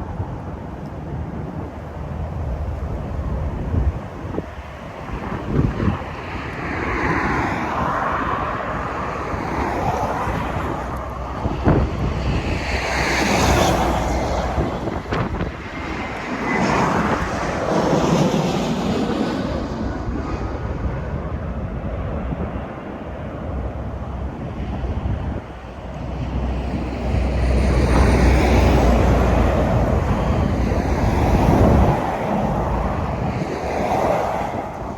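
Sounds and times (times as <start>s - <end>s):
jet engines rushing past: 0.0s - 34.9s
wind buffeting microphone: 0.0s - 34.9s.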